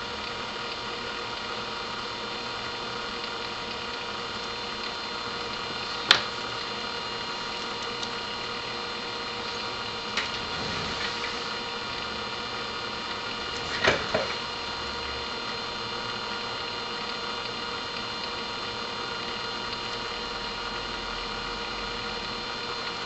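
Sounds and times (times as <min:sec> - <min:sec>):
faint steady whine: 0:00.0 - 0:23.0.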